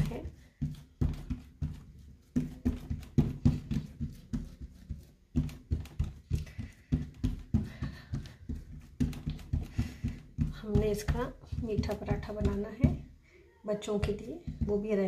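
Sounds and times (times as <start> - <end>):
palms slapping dough: 0.0 - 15.0.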